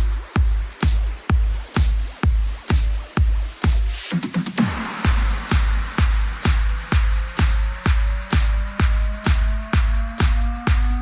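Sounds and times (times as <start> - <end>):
electronic dance music: 0.0 - 11.0
heavy kick drum: 0.0 - 11.0.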